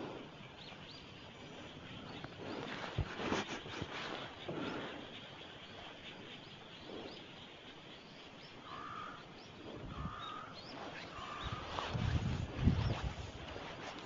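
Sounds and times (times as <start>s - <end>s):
short wavering bird calls: 0.7s - 13.9s.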